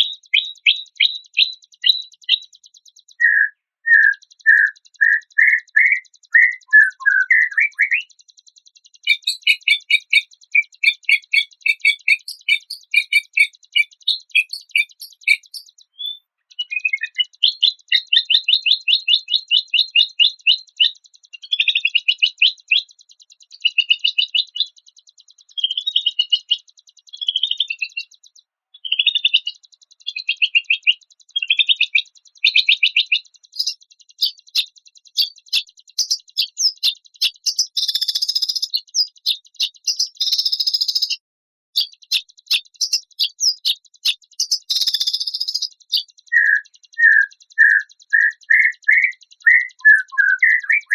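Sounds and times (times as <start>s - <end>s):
songbird trills and chirps: 0.0s - 41.2s, 41.8s - 50.9s.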